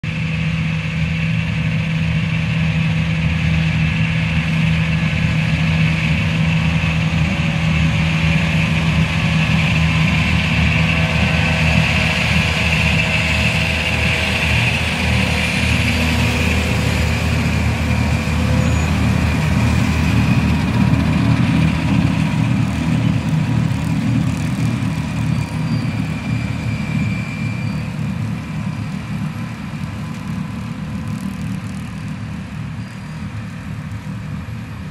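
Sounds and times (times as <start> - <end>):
high machine whine: 0.1 - 34.9
windrower engine drone: 0.1 - 34.9.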